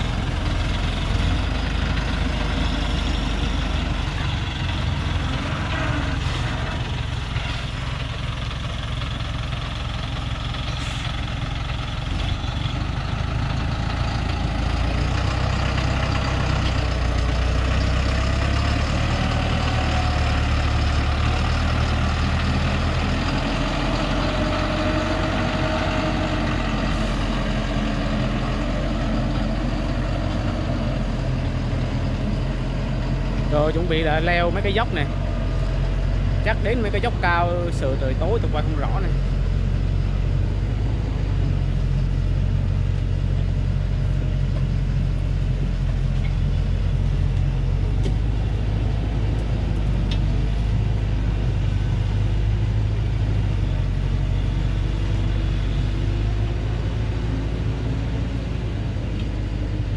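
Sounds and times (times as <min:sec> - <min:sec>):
truck engine under load: 0:00.0 - 0:59.9.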